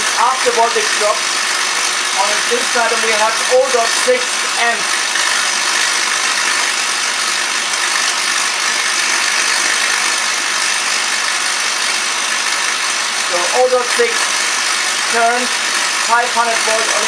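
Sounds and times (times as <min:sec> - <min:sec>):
spark gap hissing: 0:00.0 - 0:17.0
vacuum cleaner running: 0:00.0 - 0:17.0.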